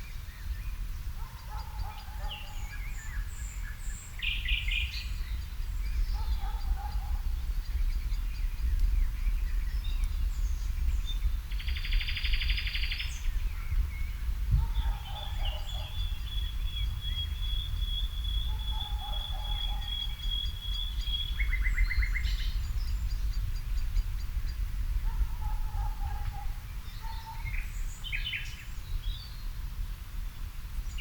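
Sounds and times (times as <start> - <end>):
songbirds trilling: 0.0 - 29.6.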